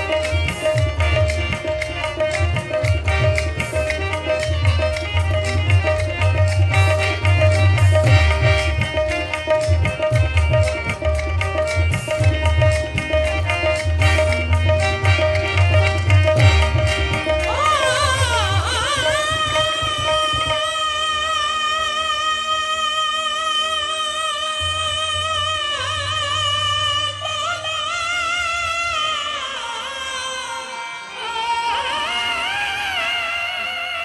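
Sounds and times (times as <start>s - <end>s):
tabla drumming: 0.0s - 34.0s.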